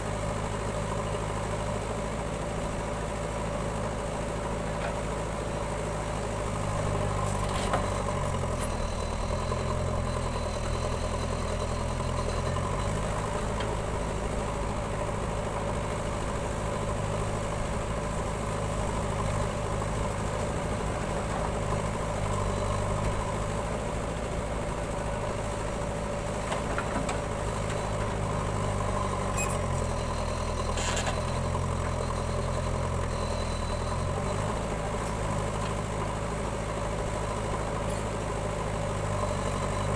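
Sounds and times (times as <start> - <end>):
backhoe diesel engine running: 0.0 - 39.9
tractor engine idling: 0.0 - 39.9.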